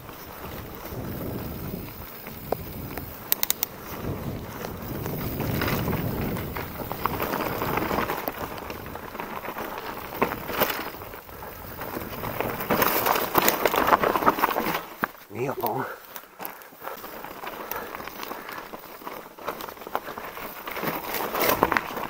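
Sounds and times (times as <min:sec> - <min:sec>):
bike rattling and clicking: 0:00.0 - 0:22.0
bike tyres rolling over dirt: 0:00.0 - 0:22.0
tyres on loose gravel: 0:00.0 - 0:22.0.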